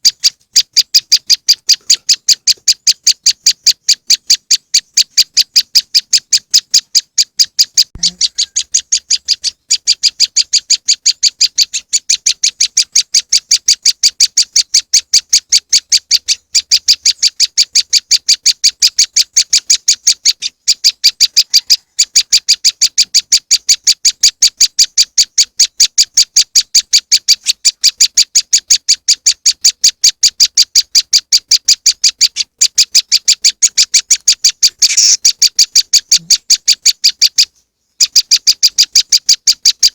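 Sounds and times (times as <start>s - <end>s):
bird sharp high chirps: 0.0s - 39.9s.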